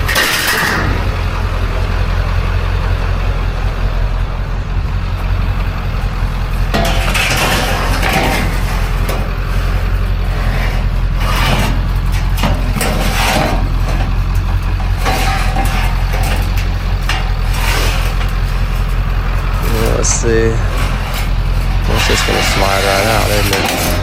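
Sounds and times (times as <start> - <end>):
scraping and clattering: 0.0 - 1.7, 5.1 - 24.0
vehicle engine idling: 0.0 - 24.0.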